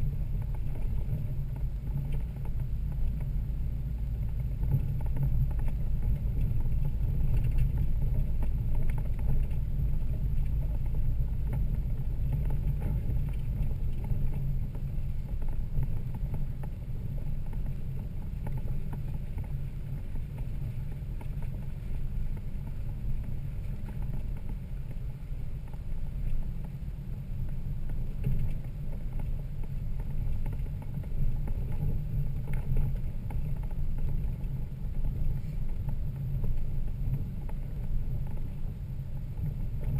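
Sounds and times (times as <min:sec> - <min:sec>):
low engine rumble: 0:00.0 - 0:39.9.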